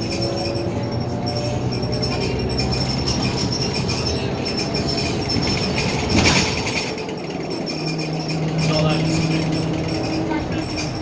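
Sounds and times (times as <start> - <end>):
bus diesel engine hum: 0.0 - 11.0
fittings rattling: 0.0 - 11.0
road noise: 0.0 - 11.0.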